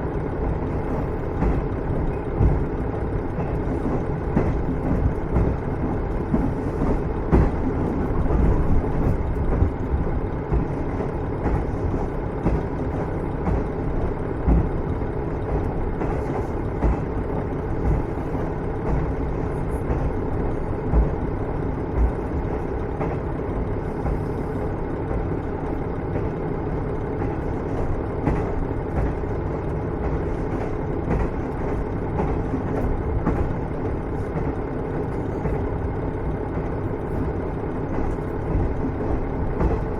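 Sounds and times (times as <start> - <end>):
wheels rumbling on rails: 0.0 - 39.9.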